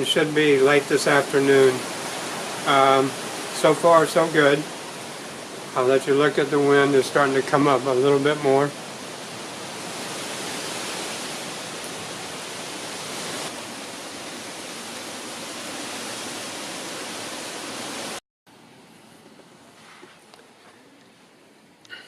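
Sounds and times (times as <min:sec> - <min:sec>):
hurricane wind rushing: 0:00.0 - 0:18.2.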